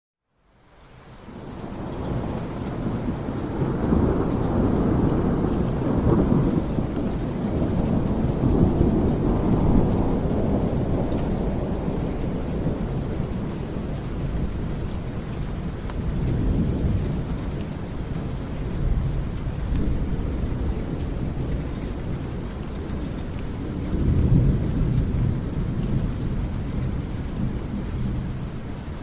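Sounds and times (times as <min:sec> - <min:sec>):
heavy rain: 0:00.3 - 0:29.0.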